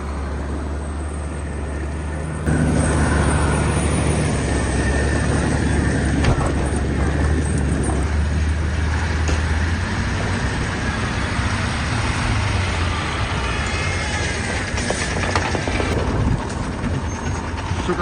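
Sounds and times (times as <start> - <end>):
diesel truck engines rumbling: 0.0 - 18.0.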